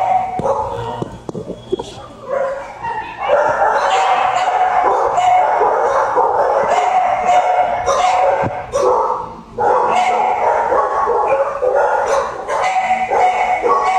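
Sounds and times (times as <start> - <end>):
many dogs barking and yelping: 0.0 - 13.9.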